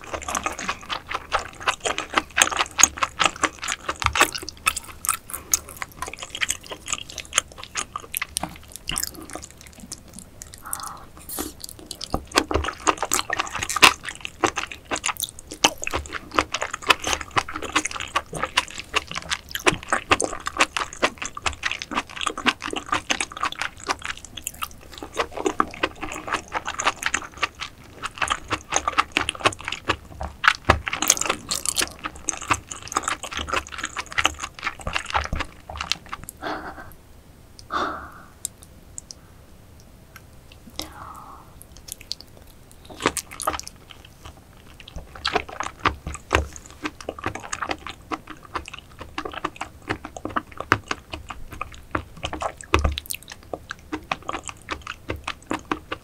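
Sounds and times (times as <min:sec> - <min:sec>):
wet chewing: 0:00.0 - 0:37.0, 0:40.2 - 0:56.0.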